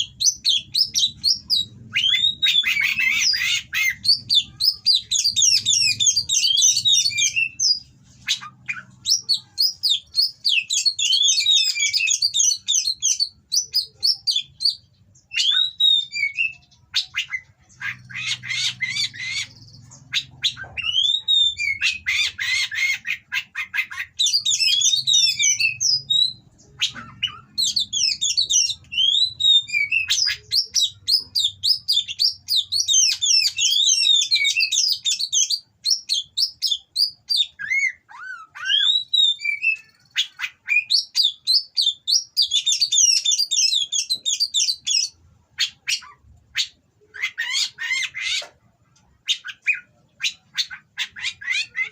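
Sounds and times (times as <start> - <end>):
bird singing whistles and chatters: 0.0 - 51.9.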